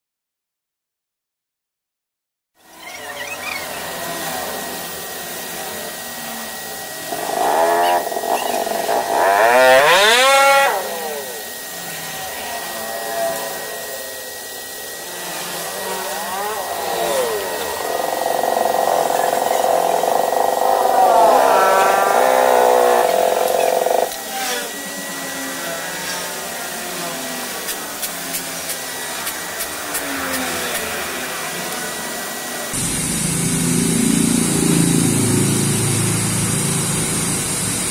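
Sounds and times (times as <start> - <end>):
faint high whine: 2.6 - 37.9
motor revving: 2.6 - 37.9.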